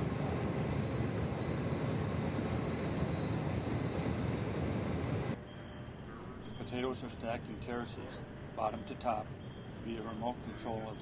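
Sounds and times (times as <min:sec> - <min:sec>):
conveyor machinery rumbling: 0:00.0 - 0:11.0
high whine: 0:00.0 - 0:11.0.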